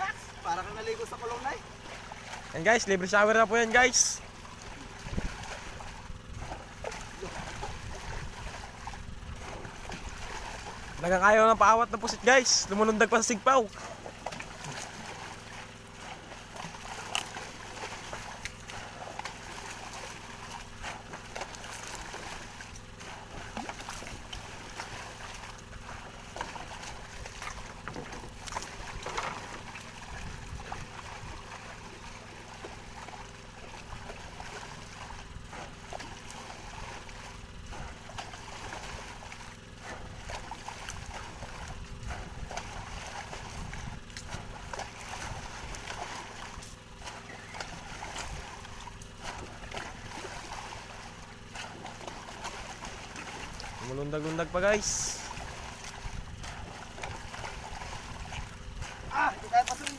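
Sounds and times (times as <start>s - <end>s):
small splashes: 0.0s - 59.9s
steady low hum: 0.0s - 59.9s
water splashing and sloshing: 0.0s - 59.9s.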